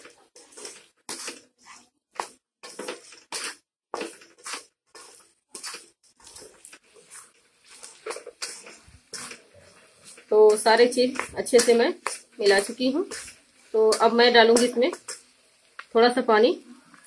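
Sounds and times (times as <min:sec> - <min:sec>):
spatula scraping metal pan: 0:00.0 - 0:15.3.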